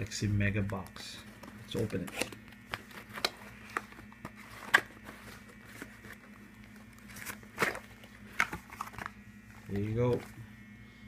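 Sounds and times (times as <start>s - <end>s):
cardboard rustling: 0.6s - 10.4s
cardboard packaging clicks and scrapes: 1.4s - 10.4s.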